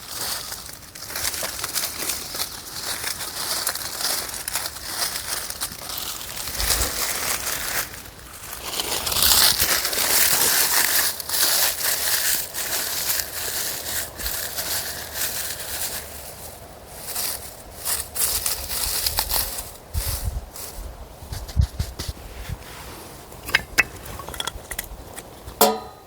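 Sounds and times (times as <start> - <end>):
close crinkling and crackling: 0.0 - 25.6.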